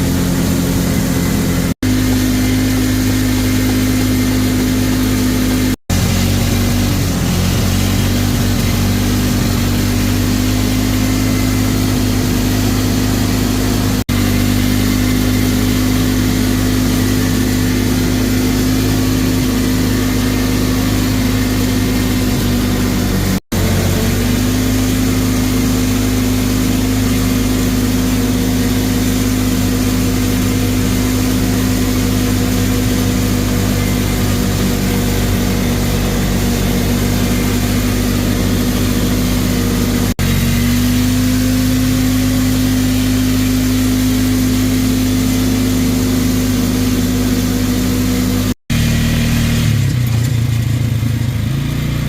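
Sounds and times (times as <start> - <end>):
atv engine running: 0.0 - 52.0.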